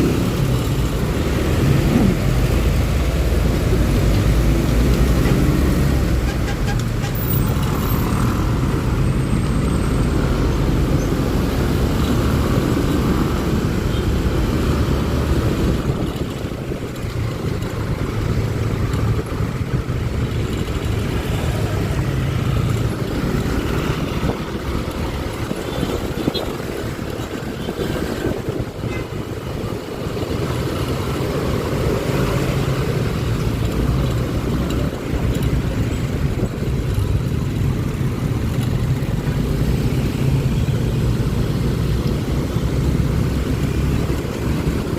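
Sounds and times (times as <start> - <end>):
road and traffic noise: 0.0 - 44.9.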